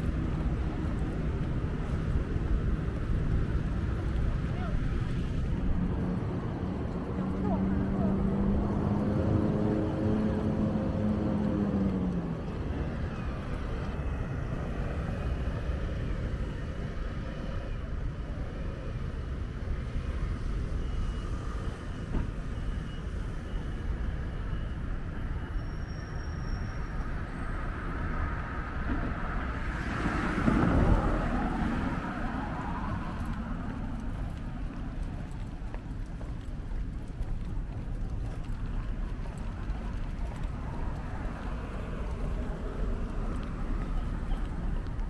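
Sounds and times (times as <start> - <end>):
rumble of passing vehicles: 0.0 - 45.0.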